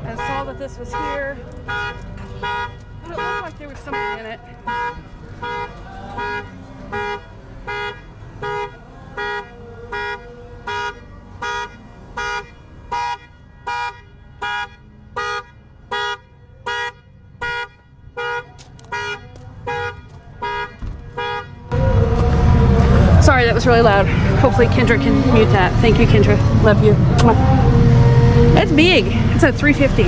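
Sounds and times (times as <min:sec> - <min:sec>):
car horn honking: 0:00.0 - 0:30.0.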